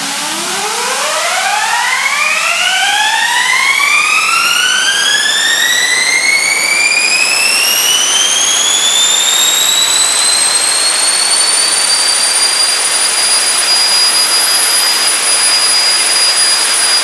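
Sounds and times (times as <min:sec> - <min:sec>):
turbojet engine whine rising: 0:00.0 - 0:17.0.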